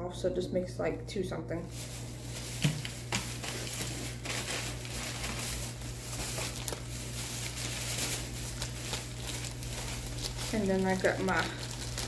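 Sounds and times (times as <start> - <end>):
steady low hum: 0.0 - 12.0
plastic bag rustling: 1.6 - 12.0.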